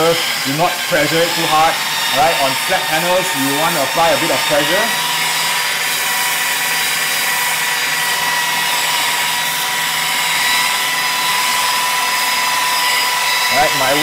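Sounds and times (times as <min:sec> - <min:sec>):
polisher motor whine: 0:00.0 - 0:14.0
polishing pad hissing on paint: 0:00.0 - 0:14.0.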